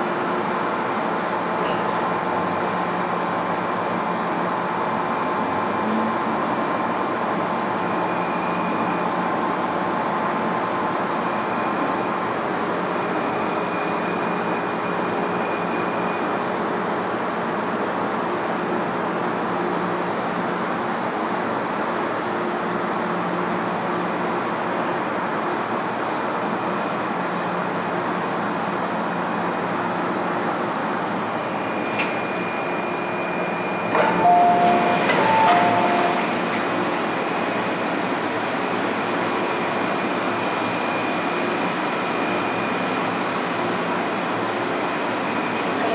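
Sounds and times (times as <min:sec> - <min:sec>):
train rumble and motor whine: 0:00.0 - 0:45.9.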